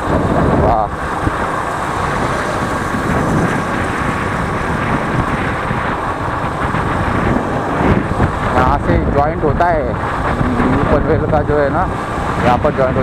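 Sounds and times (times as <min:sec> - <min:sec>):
motorcycle engine: 0:00.0 - 0:13.0
road noise: 0:00.0 - 0:13.0
wind rush on microphone: 0:00.0 - 0:13.0.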